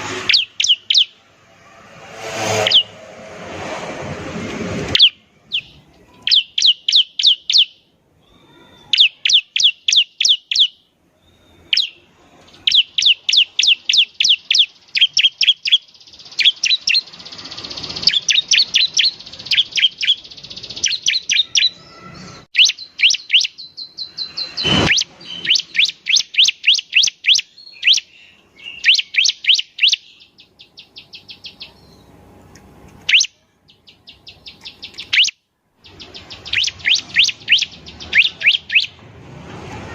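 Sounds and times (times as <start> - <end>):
bird singing sharp high chirps: 0.0 - 3.0, 4.9 - 32.1, 33.0 - 39.0.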